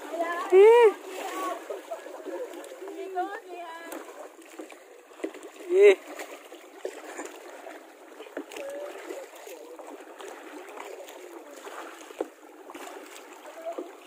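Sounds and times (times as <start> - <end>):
paddle splashes and knocks: 0.0 - 14.0
water washing along hull: 0.0 - 14.0.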